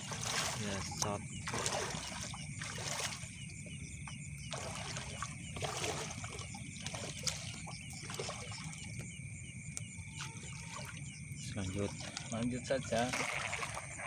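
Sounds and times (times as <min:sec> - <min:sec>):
insects chirping: 0:00.0 - 0:14.0
shallow water sloshing and splashing: 0:00.0 - 0:14.0.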